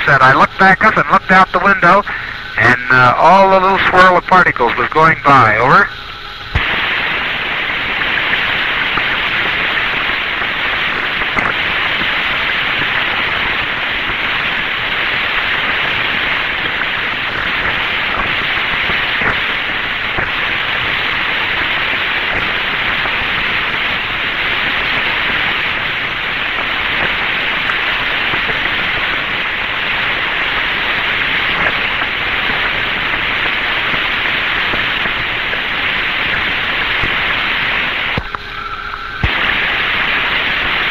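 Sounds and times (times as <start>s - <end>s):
radio static hiss: 0.0s - 40.9s.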